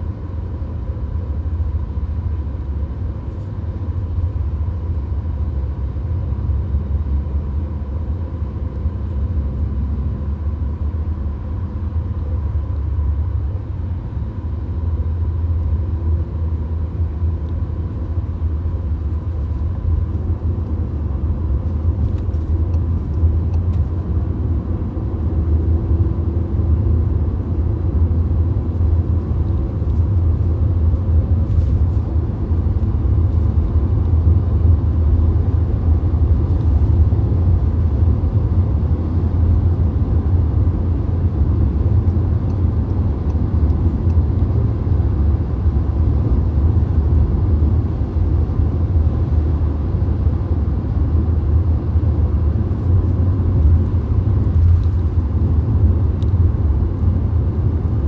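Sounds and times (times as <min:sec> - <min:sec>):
car cabin road noise drone: 0:00.0 - 0:58.0.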